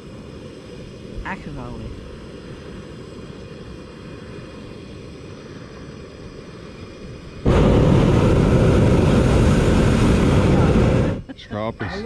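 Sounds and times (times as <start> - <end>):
propane burner roaring: 0.0 - 12.0.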